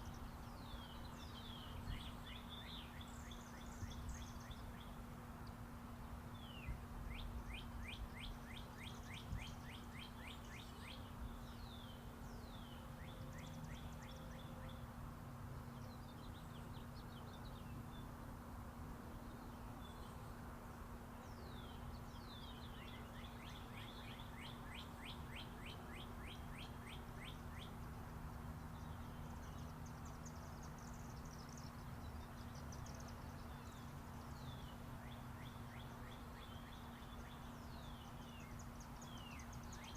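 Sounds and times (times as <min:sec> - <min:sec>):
highway traffic rumble: 0:00.0 - 0:39.9
songbirds chirping: 0:00.0 - 0:39.9.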